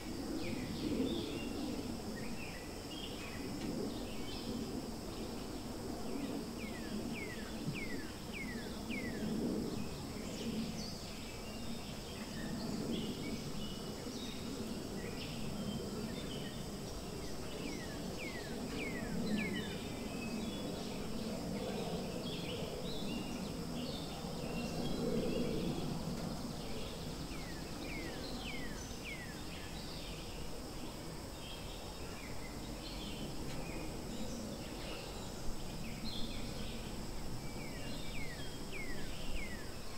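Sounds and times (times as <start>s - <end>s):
insect hum: 0.0s - 39.9s.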